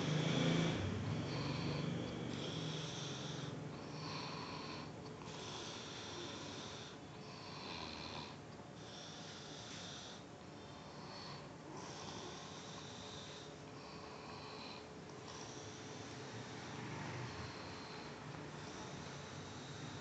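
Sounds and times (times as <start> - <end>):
person snoring: 0.0 - 20.0.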